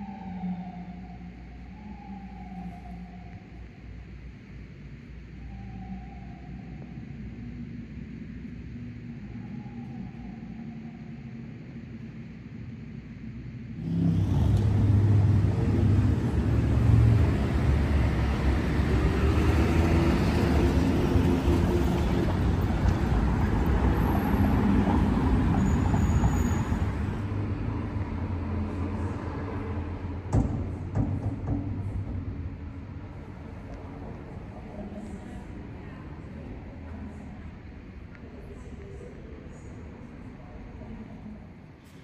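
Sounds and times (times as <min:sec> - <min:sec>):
city street traffic: 0:00.0 - 0:42.0.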